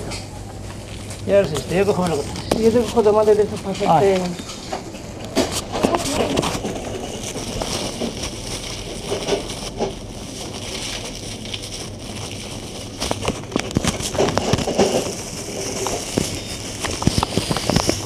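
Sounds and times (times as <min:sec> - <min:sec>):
plastic bag rustling: 0:00.6 - 0:18.0.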